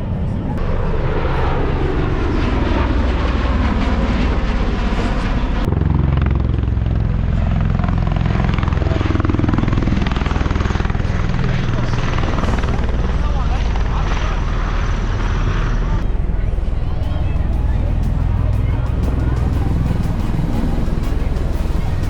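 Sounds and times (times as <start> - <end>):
helicopter rotor beat: 0.0 - 22.0.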